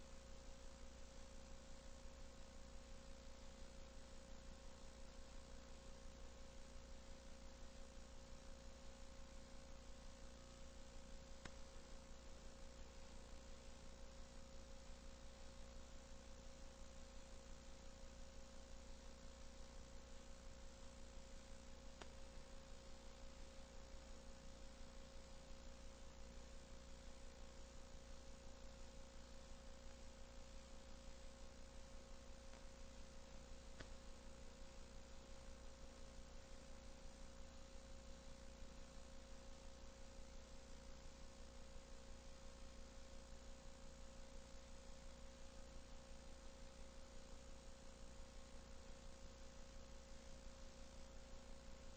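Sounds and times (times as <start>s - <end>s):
steady electrical hum: 0.0s - 51.9s
tape hiss: 0.0s - 51.9s.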